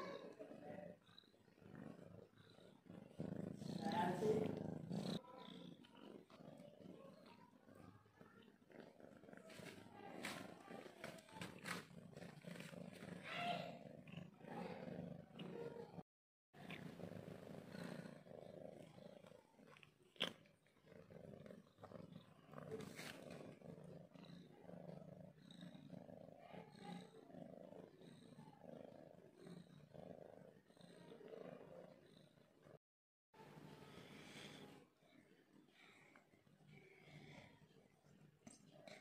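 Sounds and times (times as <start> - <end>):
cat purring: 0.0 - 32.8, 33.4 - 39.0.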